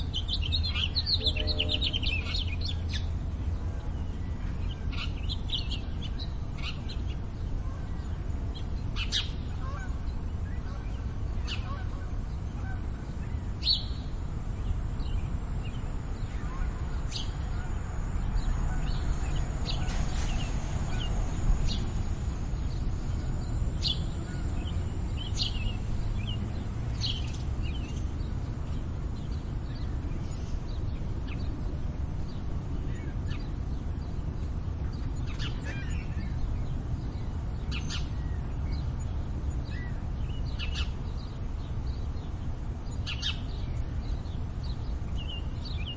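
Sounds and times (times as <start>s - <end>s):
low urban rumble: 0.0s - 45.9s
small songbirds chirping: 0.0s - 45.9s.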